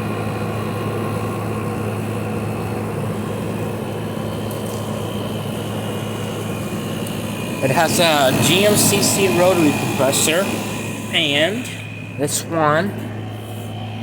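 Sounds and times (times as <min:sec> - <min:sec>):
air conditioner compressor hum: 0:00.0 - 0:14.0
faint high whine: 0:00.0 - 0:14.0.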